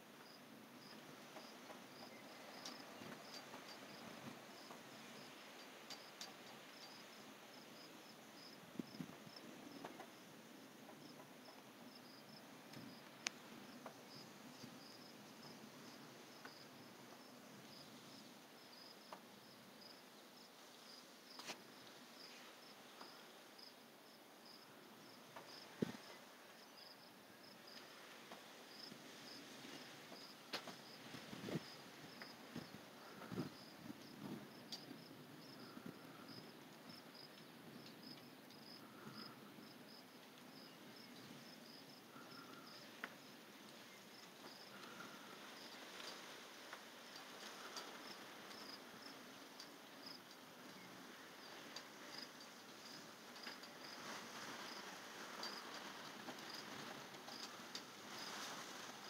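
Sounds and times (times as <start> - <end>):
crickets chirping: 0.0 - 59.0
low hiss: 0.0 - 59.0.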